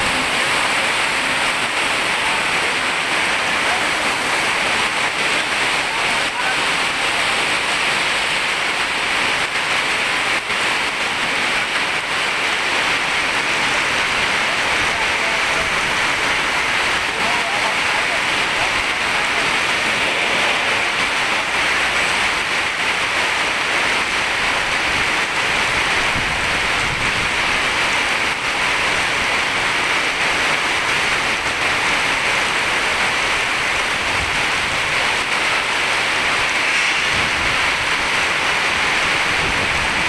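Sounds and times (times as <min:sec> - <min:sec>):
heavy rain on wet road: 0:00.0 - 0:40.0.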